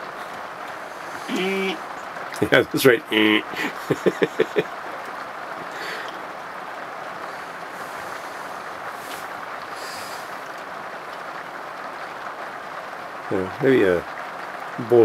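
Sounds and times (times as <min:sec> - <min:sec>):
heavy rain on vehicle roof: 0:00.0 - 0:15.0.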